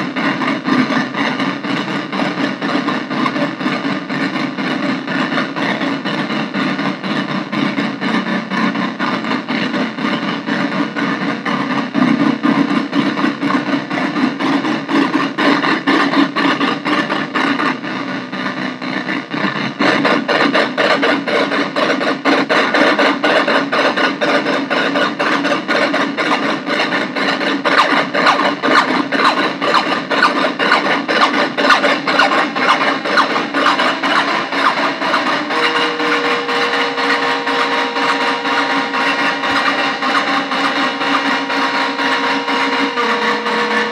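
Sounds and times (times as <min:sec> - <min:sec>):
harsh pulsing synthesizer drone: 0:00.0 - 0:43.9.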